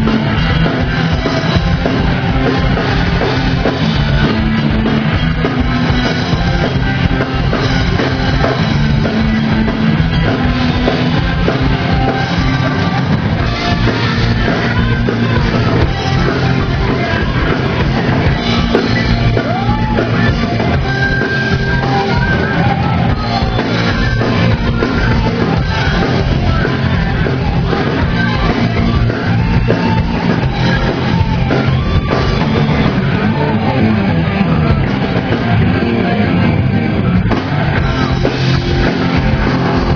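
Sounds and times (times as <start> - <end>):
drum kit: 0.0 - 39.9
heavy rock music: 0.0 - 39.9
person singing: 0.0 - 39.9.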